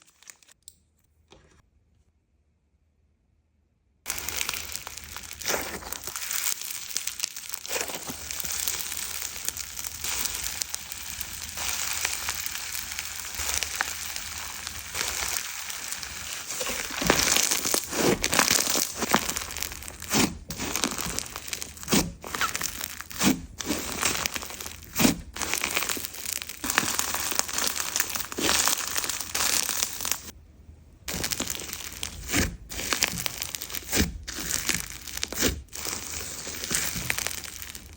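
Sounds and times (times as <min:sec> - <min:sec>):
slime squished crackling: 0:04.1 - 0:30.3, 0:31.1 - 0:37.9.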